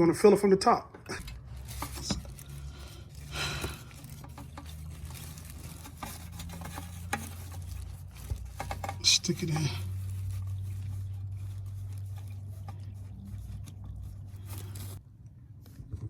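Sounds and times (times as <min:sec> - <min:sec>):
low steady hum: 0:00.9 - 0:16.0
hose and can clicking and rustling: 0:01.2 - 0:15.0.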